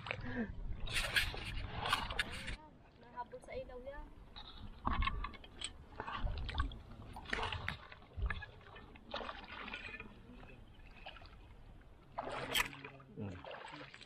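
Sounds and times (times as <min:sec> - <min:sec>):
footsteps sloshing through water: 0:00.0 - 0:03.1, 0:04.2 - 0:14.0.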